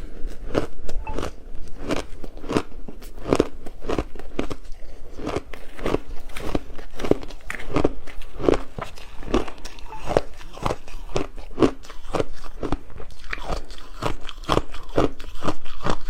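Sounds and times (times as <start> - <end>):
person chewing crunchy ice: 0.0 - 16.0.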